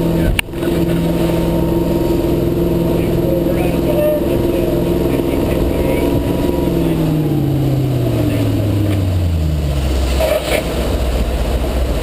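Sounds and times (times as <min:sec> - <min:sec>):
boat engine slowing: 0:00.0 - 0:12.0
water rushing along hull: 0:00.0 - 0:12.0.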